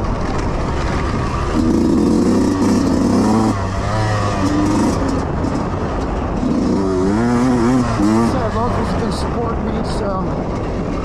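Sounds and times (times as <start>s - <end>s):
dirt bike engine revving: 0.4s - 9.6s.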